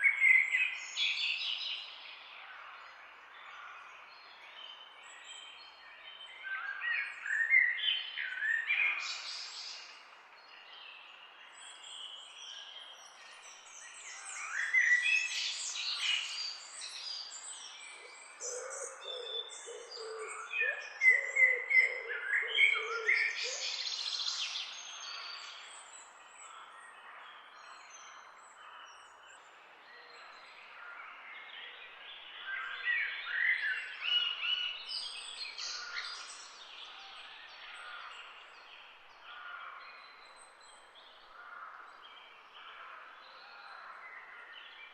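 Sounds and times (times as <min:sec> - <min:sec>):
birds chirping and singing: 0:06.1 - 0:44.9.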